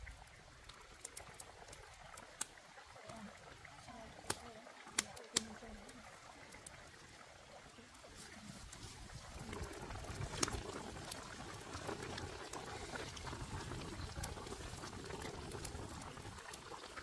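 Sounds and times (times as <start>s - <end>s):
soup boiling and bubbling: 0.0s - 17.0s.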